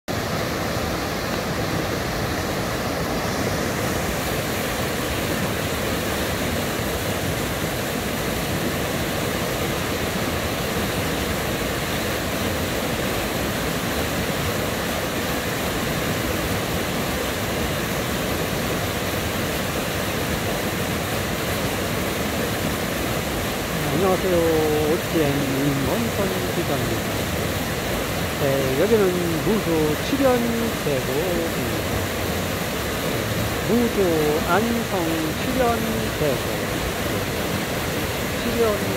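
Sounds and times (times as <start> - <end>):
waterfall rushing over rocks: 0.1 - 38.9.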